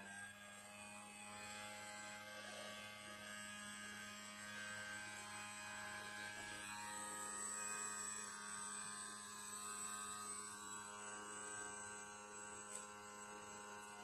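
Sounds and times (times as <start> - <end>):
electric pump humming: 0.0 - 14.0.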